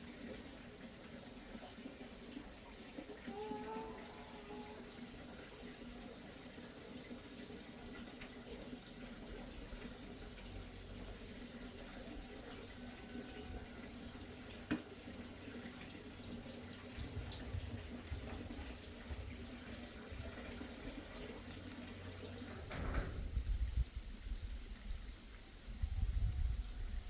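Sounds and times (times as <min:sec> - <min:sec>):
water running: 0:00.0 - 0:27.0.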